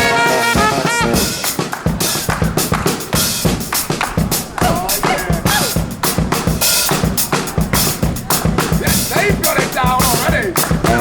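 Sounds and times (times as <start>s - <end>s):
drum kit beat: 0.0s - 11.0s
live band playing: 0.0s - 11.0s.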